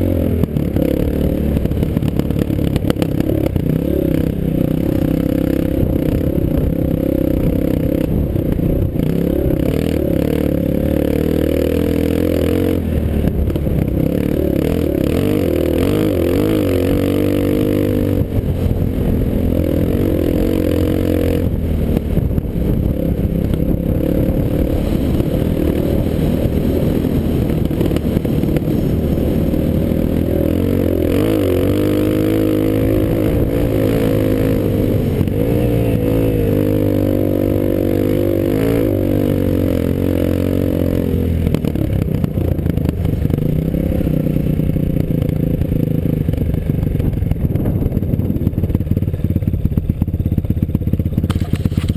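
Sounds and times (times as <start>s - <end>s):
off-road vehicle engine revving: 0.0s - 46.3s.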